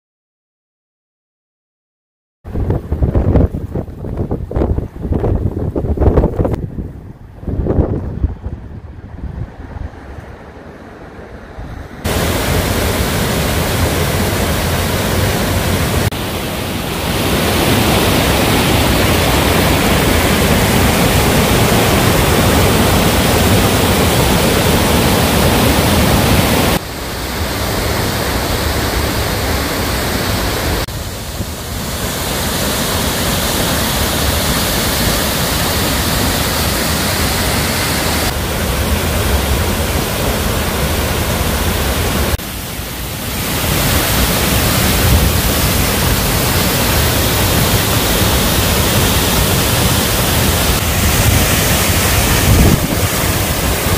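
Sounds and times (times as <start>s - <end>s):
waterfall and stream rushing: 6.8s - 53.9s.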